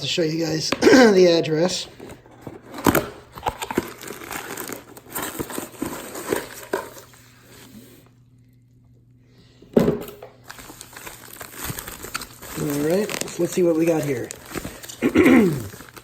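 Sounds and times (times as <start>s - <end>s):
packaging rustling and crinkling: 0.4s - 7.7s, 10.4s - 16.0s.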